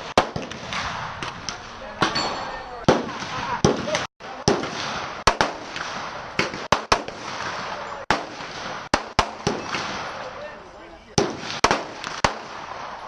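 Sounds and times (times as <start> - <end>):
gunshots: 0.0 - 10.6, 11.2 - 13.0.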